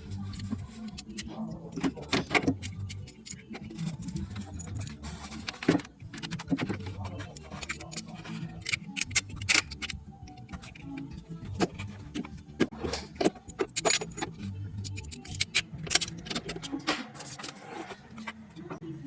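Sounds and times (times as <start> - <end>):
hand tools and metal parts clinking: 0.0 - 18.8.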